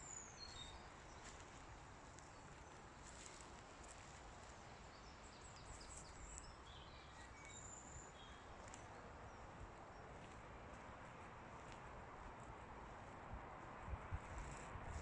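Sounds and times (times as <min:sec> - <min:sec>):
faint birds chirping: 0:00.0 - 0:13.6.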